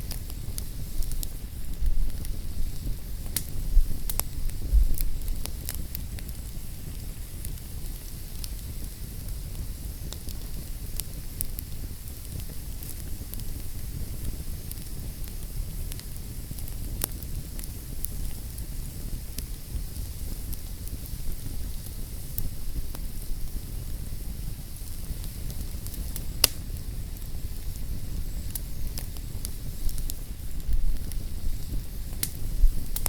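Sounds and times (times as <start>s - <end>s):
fireplace fire crackling: 0.0s - 33.0s.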